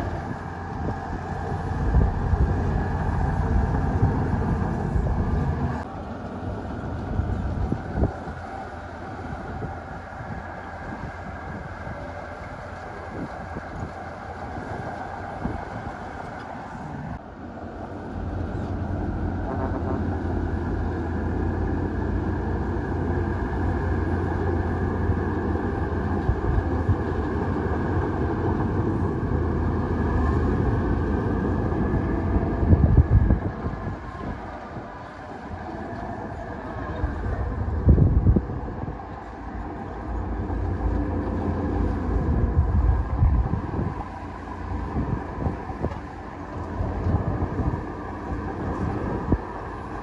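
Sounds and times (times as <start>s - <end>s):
heavy diesel machinery running: 0.0s - 50.0s.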